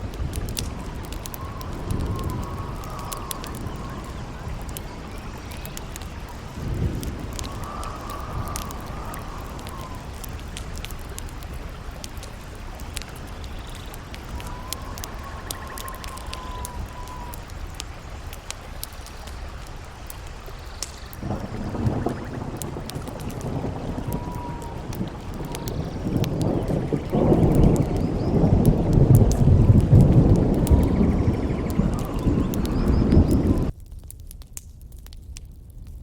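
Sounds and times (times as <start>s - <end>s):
howling wind whistle: 0.0s - 33.7s
campfire crackling and popping: 0.0s - 36.0s.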